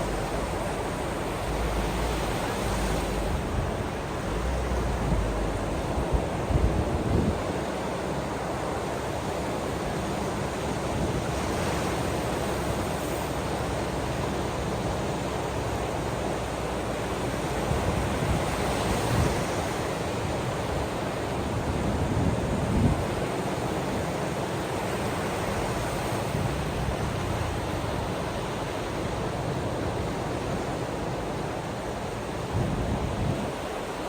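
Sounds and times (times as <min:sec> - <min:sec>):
ocean surf on shore: 0:00.0 - 0:34.0.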